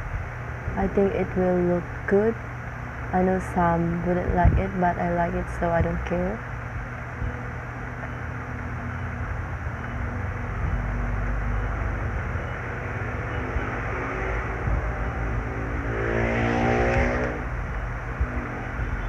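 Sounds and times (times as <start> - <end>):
low engine rumble: 0.0 - 19.0
pitched engine hum: 0.0 - 19.0.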